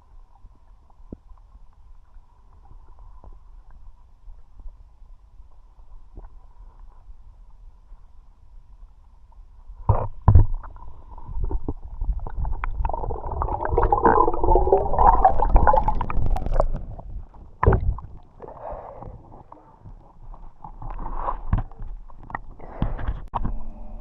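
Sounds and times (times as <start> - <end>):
muffled water gurgling: 0.0 - 24.0.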